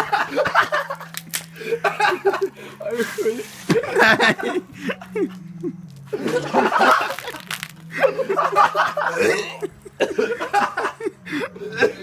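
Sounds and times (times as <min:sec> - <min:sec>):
people laughing and snickering: 0:00.0 - 0:12.0.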